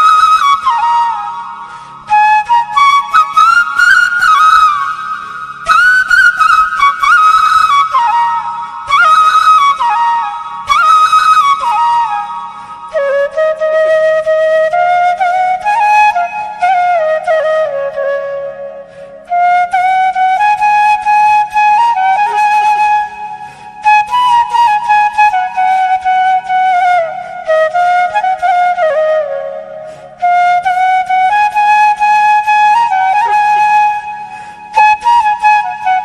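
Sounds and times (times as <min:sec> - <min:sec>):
bamboo flute melody: 0:00.0 - 0:36.0.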